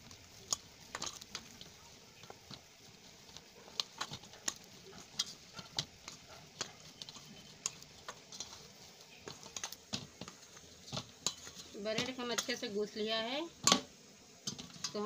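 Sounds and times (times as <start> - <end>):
dough clicking against steel bowl: 0.0 - 12.7.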